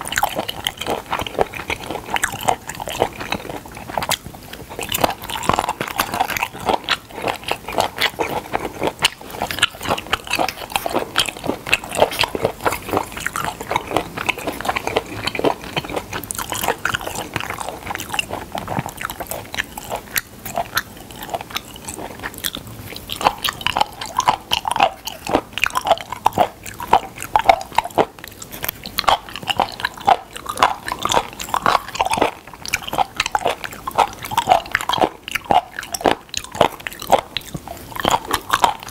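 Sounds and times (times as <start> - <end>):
wet crunchy chewing: 0.0 - 38.9.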